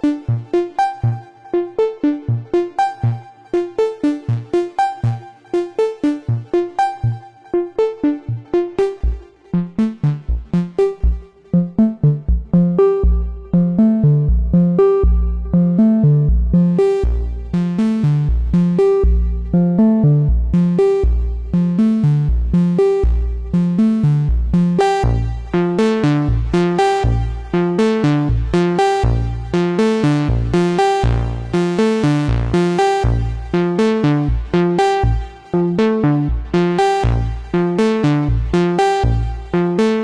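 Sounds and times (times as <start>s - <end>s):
synthesizer bass sequence: 0.0s - 40.0s.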